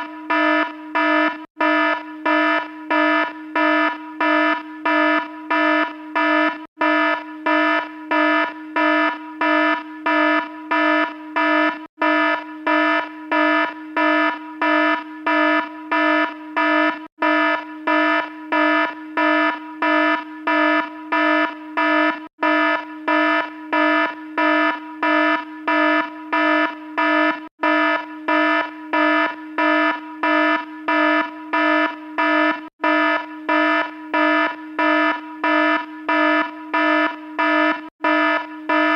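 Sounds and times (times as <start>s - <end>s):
electronic alarm beeping: 0.0s - 38.9s.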